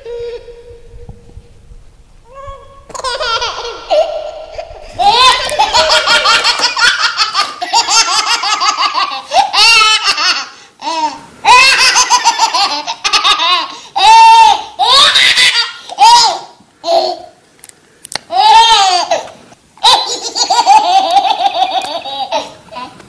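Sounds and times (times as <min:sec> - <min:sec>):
small child laughing: 0:02.3 - 0:17.3, 0:18.3 - 0:23.0.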